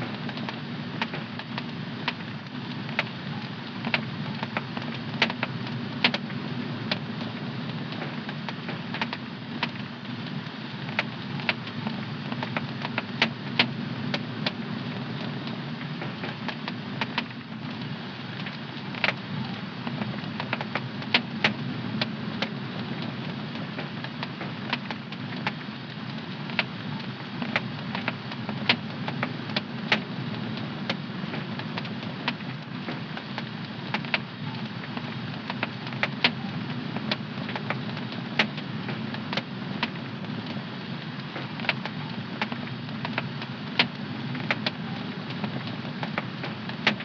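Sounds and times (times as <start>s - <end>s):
low rumble of burning fire: 0.0s - 47.0s
wood fire crackling: 0.0s - 47.0s.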